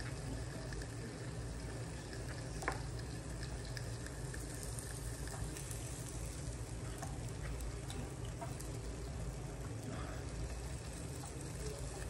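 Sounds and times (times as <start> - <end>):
meat sizzling on a grill: 0.1 - 12.0.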